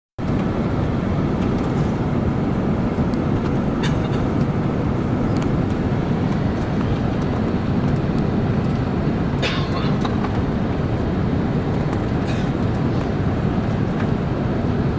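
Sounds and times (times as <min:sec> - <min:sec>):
airplane cabin rumble: 0:00.2 - 0:14.9.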